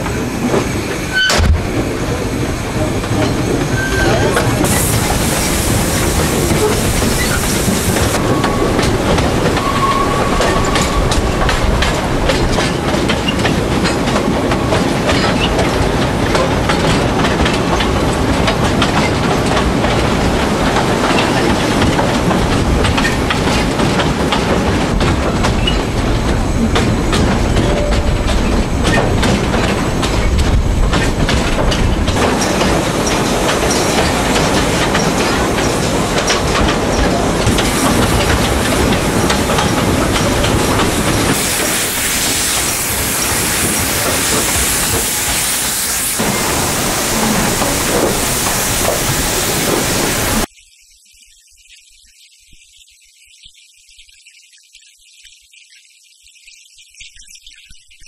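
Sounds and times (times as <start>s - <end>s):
train wheels rumbling on rail: 0.0s - 50.5s
wheels clicking over rail joints: 0.0s - 50.5s.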